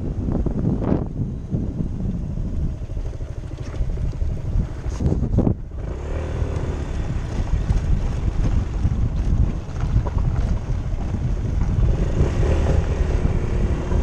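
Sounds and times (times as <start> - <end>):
scooter engine running: 0.0 - 14.0
wind rumble on microphone: 0.0 - 14.0.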